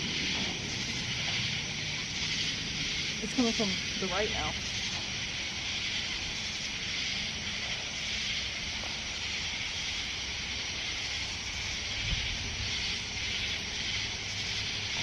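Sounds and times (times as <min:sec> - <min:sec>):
high-pitched insect chorus: 0:00.0 - 0:15.0
wind rumble on microphone: 0:00.0 - 0:15.0.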